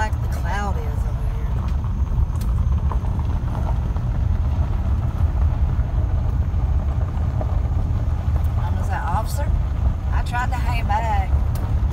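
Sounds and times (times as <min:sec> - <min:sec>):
car driving on dirt road: 0:00.0 - 0:11.9.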